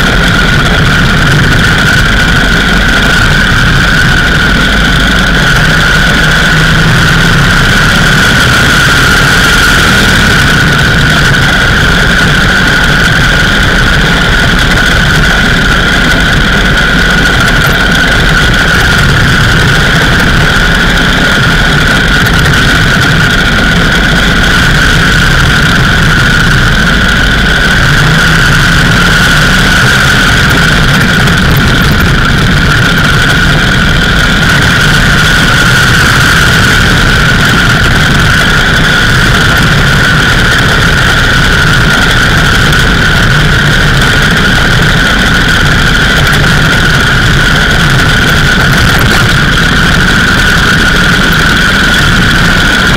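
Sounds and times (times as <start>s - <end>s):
motorcycle engine running: 0.0s - 52.9s
wind rushing over microphone: 0.0s - 52.9s.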